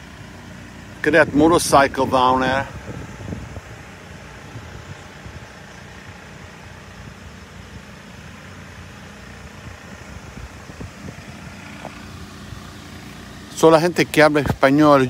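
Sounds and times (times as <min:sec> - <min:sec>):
faint outdoor background noise: 0:00.0 - 0:15.0
low engine hum: 0:00.0 - 0:15.0.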